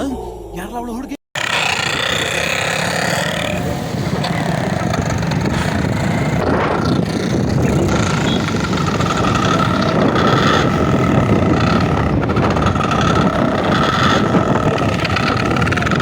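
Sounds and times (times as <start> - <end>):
motorcycle engine: 1.3 - 16.0
wind noise: 1.4 - 16.0.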